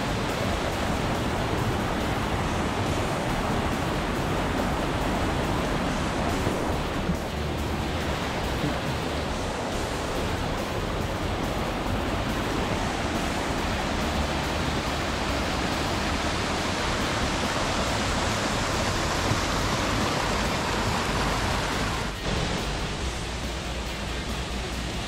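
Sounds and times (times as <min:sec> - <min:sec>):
fast-flowing water rushing: 0:00.0 - 0:25.0.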